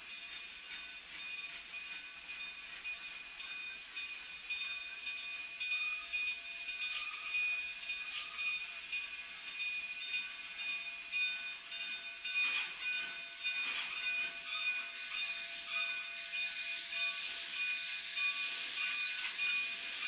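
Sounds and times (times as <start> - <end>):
steam locomotive rumble and hiss: 0.0 - 20.0.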